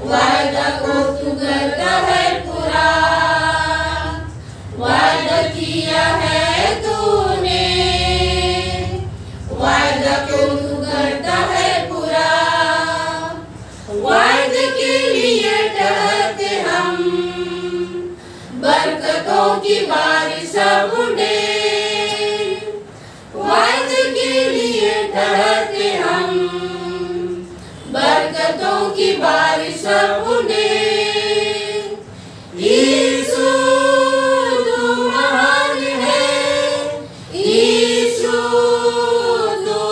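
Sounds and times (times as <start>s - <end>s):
women singing a hymn: 0.0s - 39.9s.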